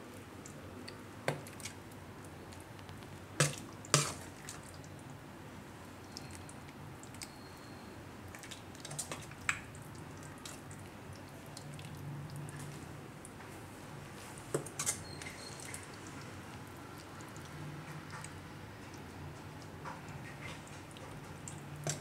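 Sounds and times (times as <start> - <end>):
gravy pouring and dripping: 0.1 - 13.4, 14.3 - 22.0.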